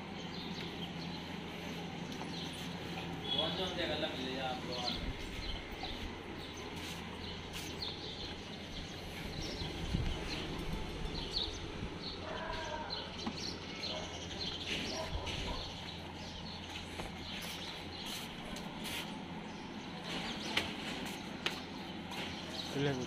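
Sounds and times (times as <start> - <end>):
steady low hum: 0.0 - 22.6
small birds chirping: 0.0 - 23.0.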